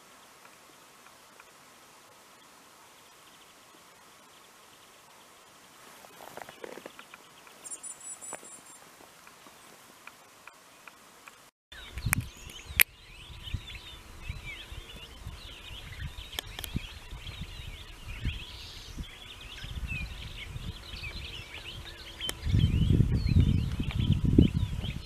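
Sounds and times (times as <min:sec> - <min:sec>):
small birds twittering: 0:00.0 - 0:25.0.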